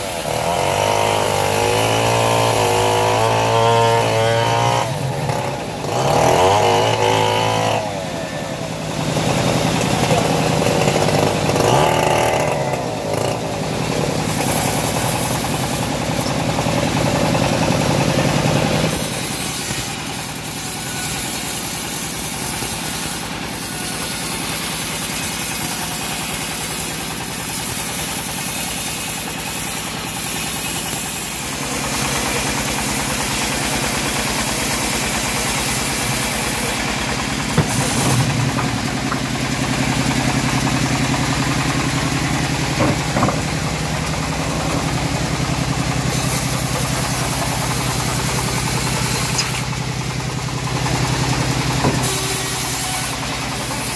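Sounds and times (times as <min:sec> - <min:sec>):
bandsaw mill sawing log: 0:00.0 - 0:53.9.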